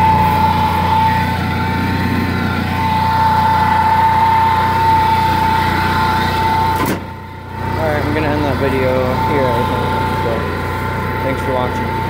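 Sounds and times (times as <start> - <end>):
riding mower engine running: 0.0 - 12.0
steady whine: 0.0 - 12.0.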